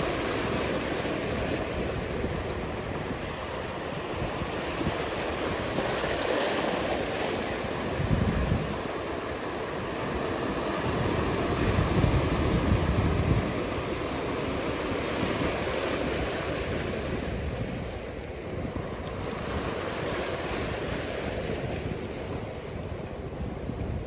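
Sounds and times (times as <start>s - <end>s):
ocean surf: 0.0s - 24.0s
wind on microphone: 0.0s - 24.0s.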